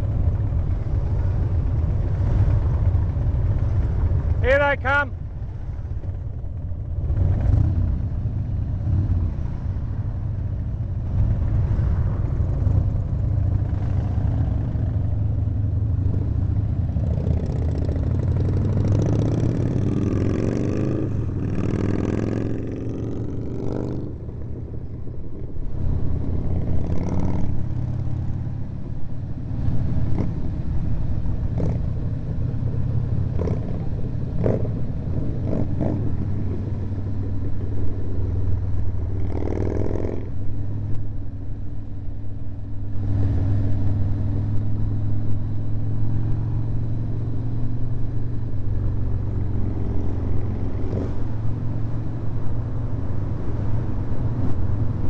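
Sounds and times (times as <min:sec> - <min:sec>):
motorcycle engine running: 0:00.0 - 0:55.0
surrounding traffic: 0:00.0 - 0:55.0.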